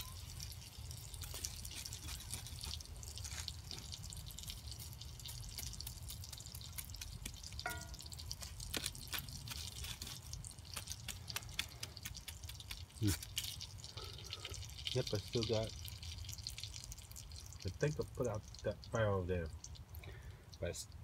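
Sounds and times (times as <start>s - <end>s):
embers crackling: 0.0s - 21.0s.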